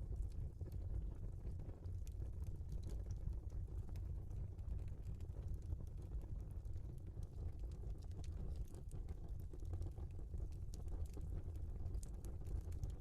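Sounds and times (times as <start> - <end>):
low rumble of flames: 0.0 - 13.0
logs crackling and popping: 1.8 - 13.0.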